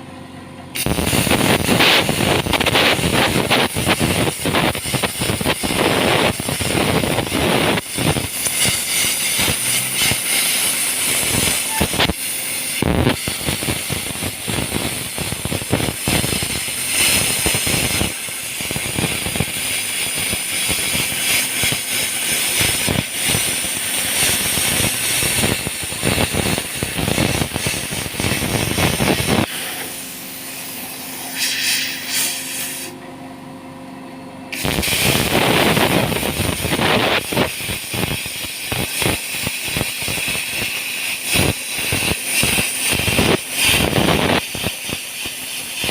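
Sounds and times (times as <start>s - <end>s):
crackling sparks and molten metal: 0.8s - 32.9s, 34.5s - 45.9s
cutting torch hissing: 0.8s - 33.0s, 34.5s - 45.9s.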